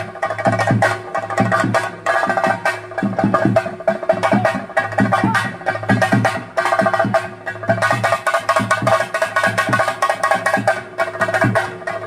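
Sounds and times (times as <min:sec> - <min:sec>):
drums beaten in fast rhythm: 0:00.0 - 0:12.0.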